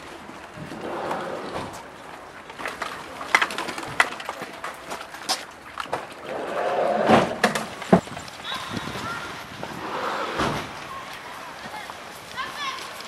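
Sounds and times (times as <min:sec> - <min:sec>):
footsteps on paved path: 0:00.0 - 0:13.0.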